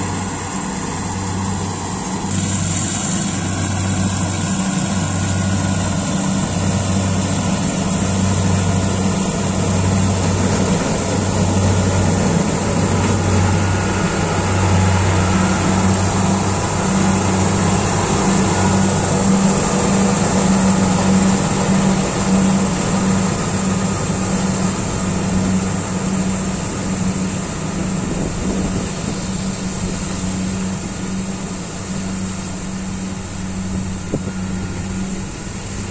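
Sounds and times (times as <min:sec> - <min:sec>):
combine harvester engine hum: 0:00.0 - 0:35.9.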